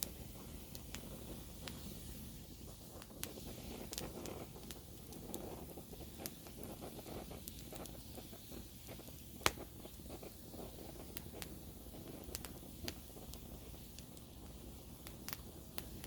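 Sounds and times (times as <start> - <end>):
campfire crackling: 0.0 - 16.0
sharp fire pop: 0.0 - 16.0.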